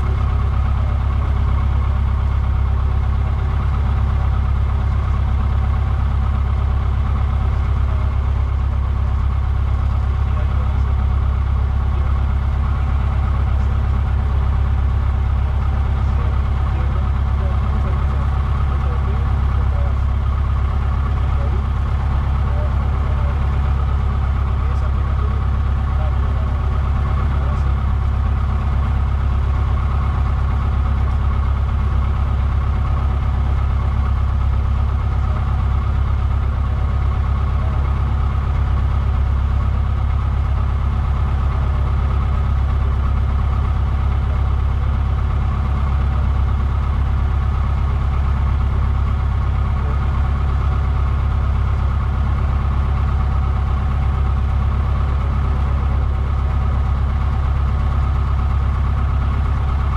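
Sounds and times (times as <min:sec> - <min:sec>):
propeller aircraft engine idling: 0:00.0 - 0:59.9.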